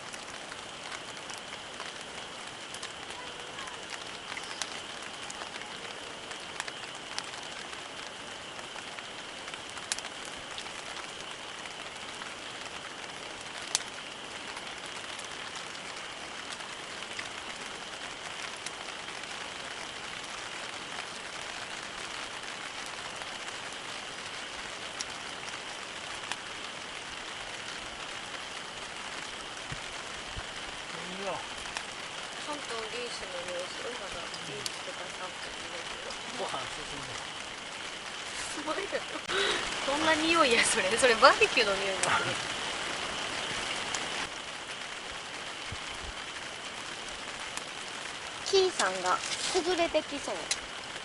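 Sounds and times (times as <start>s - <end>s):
campfire hissing: 0.0s - 51.0s
fire crackles and pops: 0.0s - 51.0s.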